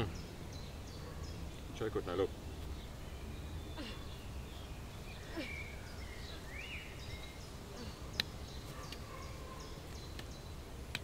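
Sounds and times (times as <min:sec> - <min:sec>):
low outdoor background noise: 0:00.0 - 0:11.0
small birds chirping: 0:00.0 - 0:11.0.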